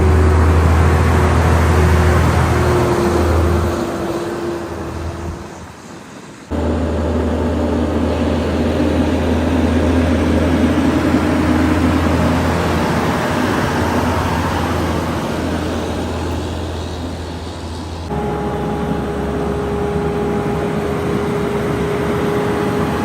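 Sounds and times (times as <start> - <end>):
truck engine running: 0.0 - 5.5, 6.5 - 23.0
heavy truck engine droning: 0.0 - 23.0.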